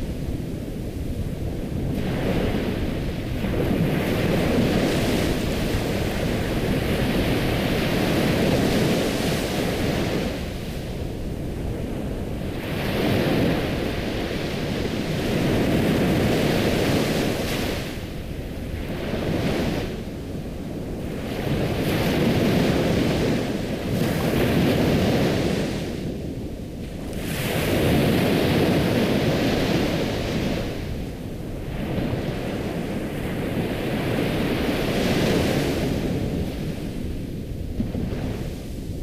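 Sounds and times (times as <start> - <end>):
ocean waves washing onto shore: 0.0 - 39.0.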